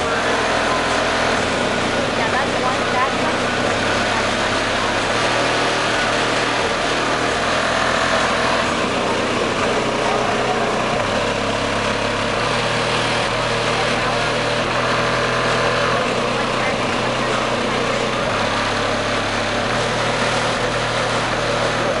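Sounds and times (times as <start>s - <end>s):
loud bass from car stereo: 0.0s - 22.0s.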